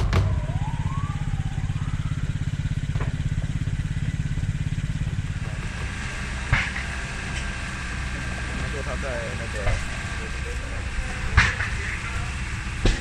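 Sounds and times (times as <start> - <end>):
engine running with fast pulse: 0.0 - 13.0.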